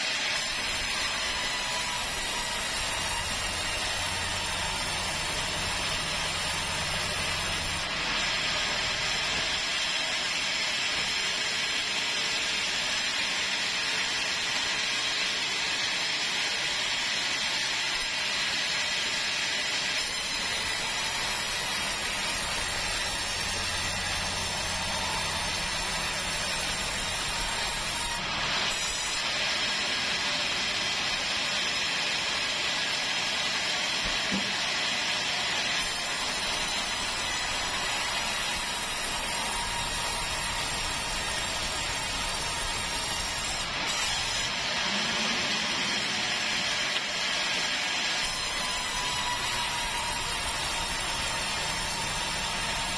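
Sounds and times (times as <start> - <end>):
band saw cutting wood: 0.0 - 52.9.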